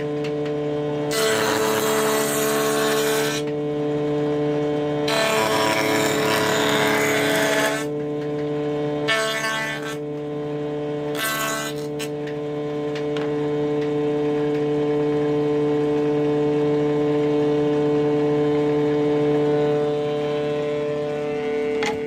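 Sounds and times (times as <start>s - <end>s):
planer cutting wood: 0.0s - 14.8s, 18.5s - 22.0s
electric planer humming: 0.0s - 22.0s.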